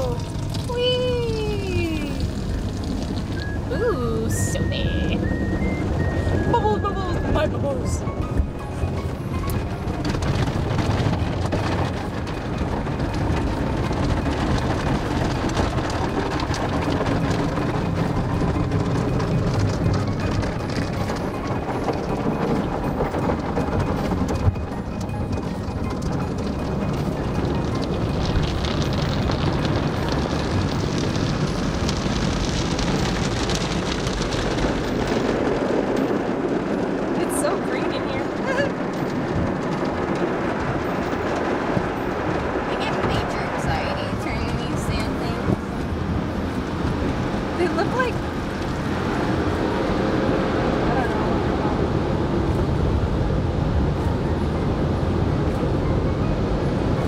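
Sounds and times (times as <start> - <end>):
water spraying on car body: 0.0 - 53.9.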